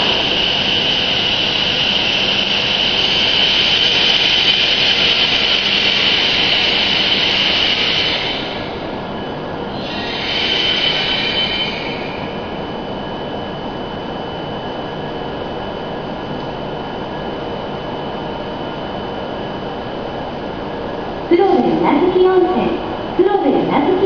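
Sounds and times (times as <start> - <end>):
high steady whine: 0.0 - 24.0
train running noise: 0.0 - 24.0.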